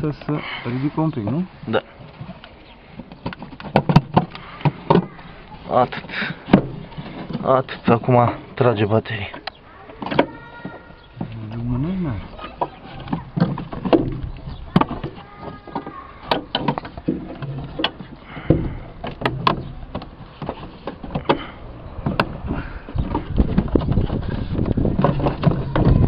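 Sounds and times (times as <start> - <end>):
plastic and metal knocks and scraping: 1.7 - 8.4, 9.1 - 26.0.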